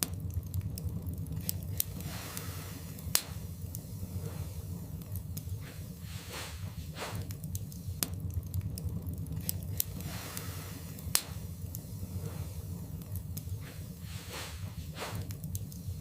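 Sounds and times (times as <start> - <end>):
fire crackles and pops: 0.0 - 16.0
low rumble of fire: 0.0 - 16.0
soft hisses of fire: 0.0 - 16.0.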